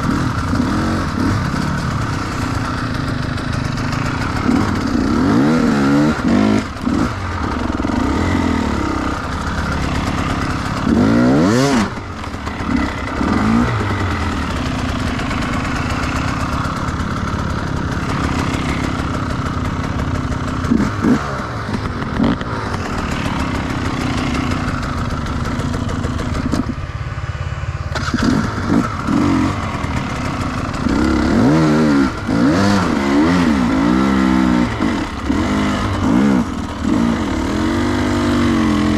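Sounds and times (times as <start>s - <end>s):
dirt bike engine revving: 0.0s - 26.8s, 27.9s - 38.9s.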